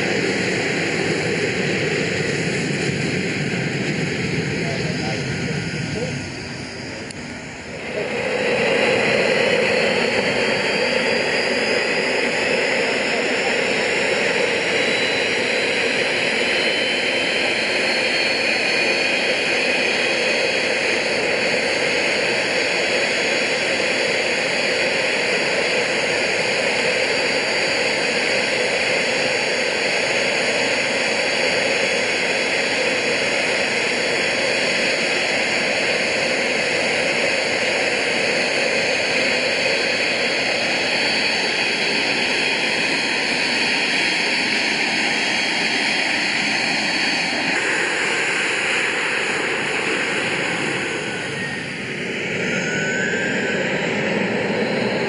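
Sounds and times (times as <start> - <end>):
jet engine rushing and whining: 0.0 - 55.0.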